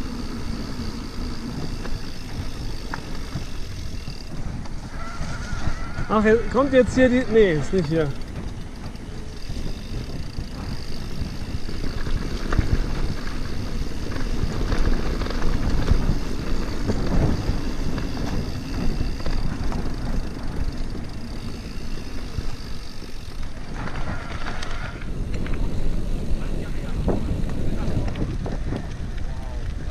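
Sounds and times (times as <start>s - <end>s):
bike knocks and rattles: 0.0s - 29.9s
tyre rumble on gravel trail: 0.0s - 29.9s
wind buffeting microphone: 0.0s - 29.9s.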